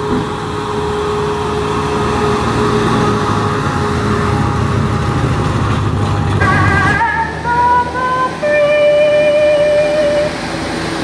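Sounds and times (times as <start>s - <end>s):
pickup truck engine running: 0.0s - 11.0s.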